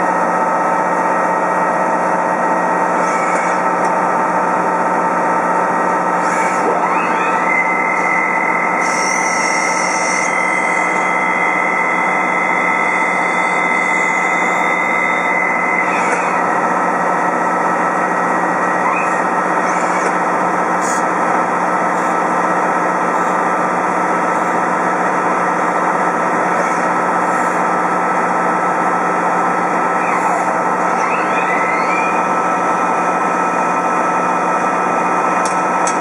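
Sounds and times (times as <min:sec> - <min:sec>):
machine humming: 0:00.0 - 0:36.0
machine whines: 0:00.0 - 0:36.0.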